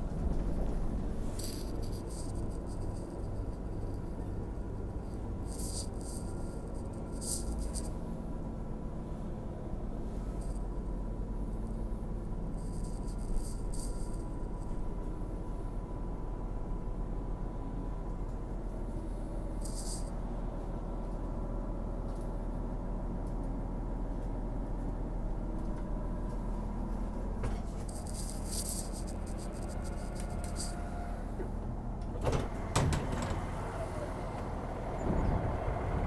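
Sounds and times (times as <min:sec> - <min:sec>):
diesel railcar running: 0:00.0 - 0:36.0.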